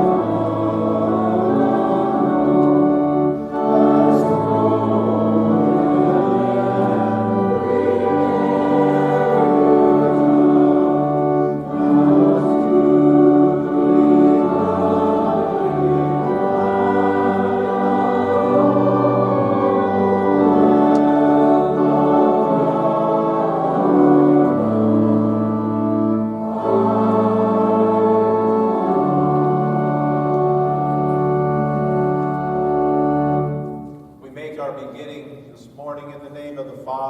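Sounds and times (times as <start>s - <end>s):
voices singing along: 0.0s - 30.0s
organ playing a hymn: 0.0s - 37.0s.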